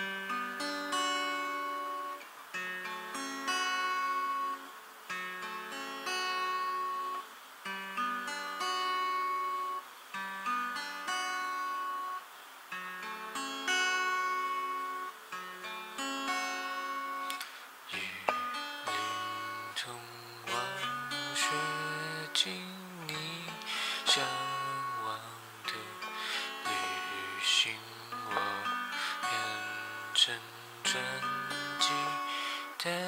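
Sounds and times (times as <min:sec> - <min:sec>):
acoustic guitar chords: 0:00.0 - 0:33.0.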